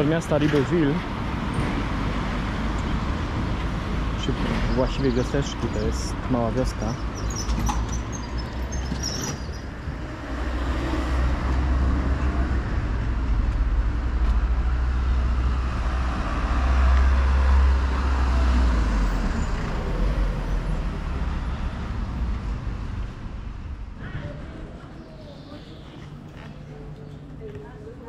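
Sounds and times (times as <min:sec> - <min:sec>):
vehicle passing with low rumble: 0:00.0 - 0:27.4.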